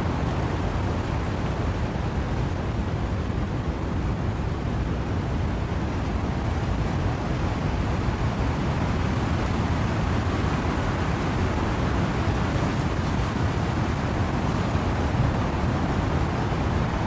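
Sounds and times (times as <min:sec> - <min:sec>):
wind and rain through trees: 0:00.0 - 0:17.0.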